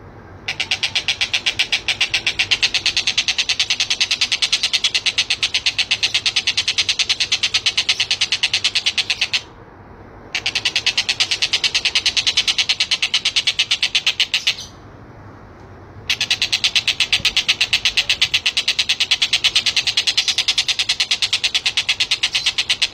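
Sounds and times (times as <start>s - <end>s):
kingfisher rattling call: 0.4s - 9.6s, 10.3s - 14.8s, 16.0s - 22.9s.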